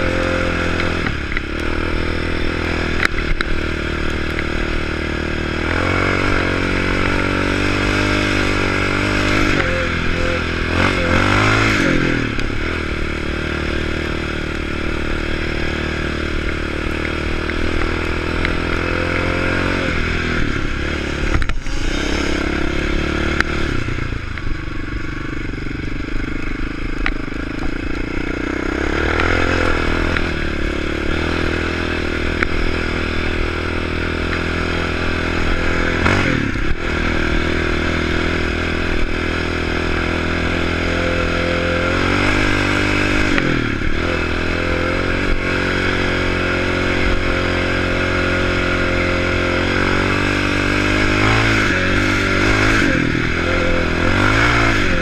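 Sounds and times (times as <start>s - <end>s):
atv engine revving while riding: 0.0s - 55.0s.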